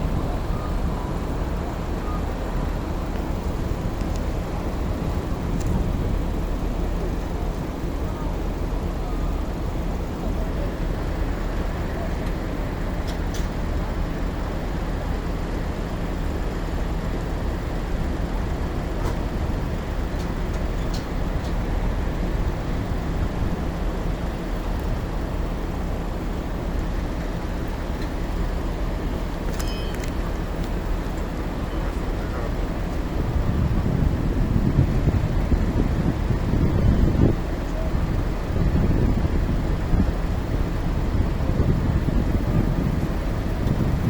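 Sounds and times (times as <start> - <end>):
diesel engine idling: 0.0 - 44.0
street traffic: 0.0 - 44.0.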